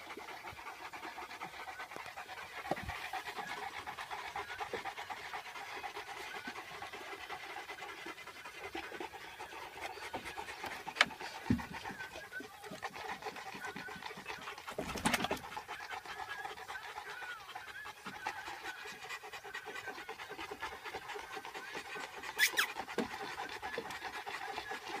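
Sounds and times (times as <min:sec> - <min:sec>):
dogs panting: 0:00.0 - 0:25.0.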